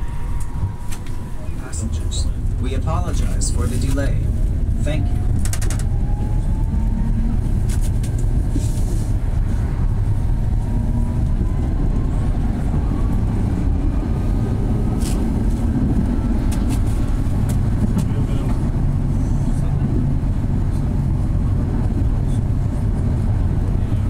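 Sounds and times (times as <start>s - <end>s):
tram rumbling on track: 0.0s - 24.0s.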